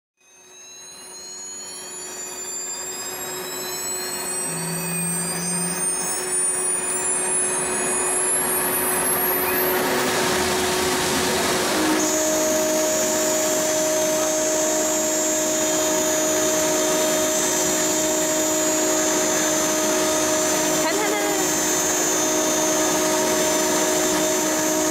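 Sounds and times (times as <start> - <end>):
cnc router spindle whining: 0.4 - 24.9
end mill cutting metal: 0.6 - 24.9.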